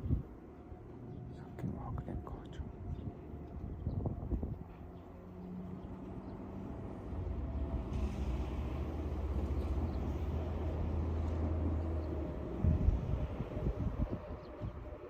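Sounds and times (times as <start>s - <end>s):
engine humming: 0.9s - 14.4s.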